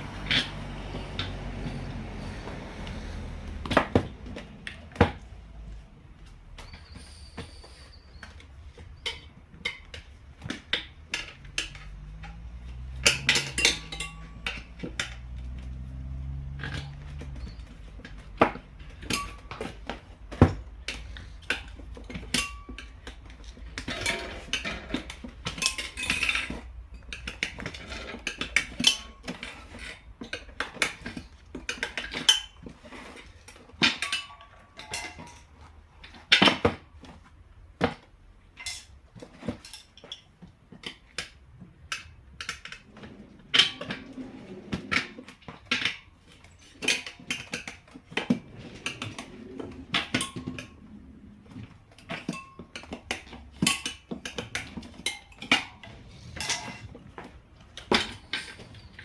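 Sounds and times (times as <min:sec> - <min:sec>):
metal tools clinking and knocking: 0:08.1 - 0:15.8, 0:16.5 - 0:36.7, 0:37.8 - 0:59.0.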